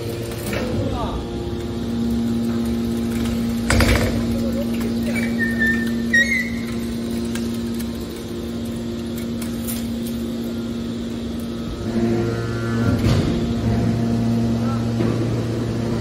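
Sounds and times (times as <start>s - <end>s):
deeper hum: 0.0s - 16.0s
electric hum of machine: 0.0s - 16.0s.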